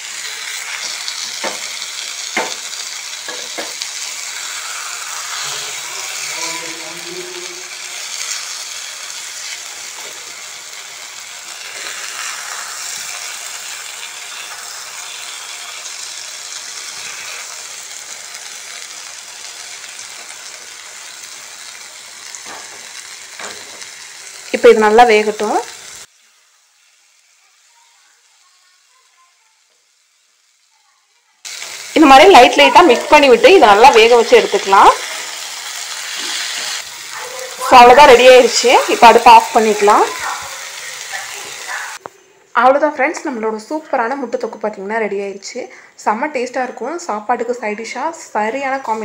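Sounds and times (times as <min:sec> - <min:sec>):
eggs sizzling in a pan: 0:00.0 - 0:42.1, 0:43.1 - 0:49.0.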